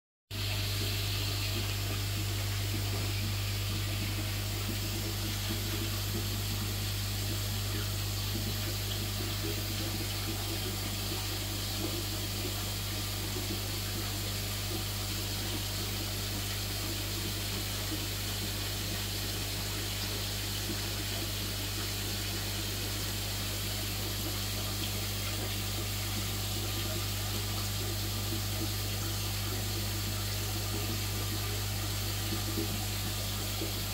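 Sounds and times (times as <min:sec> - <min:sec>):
aquarium air pump humming: 0:00.3 - 0:33.9.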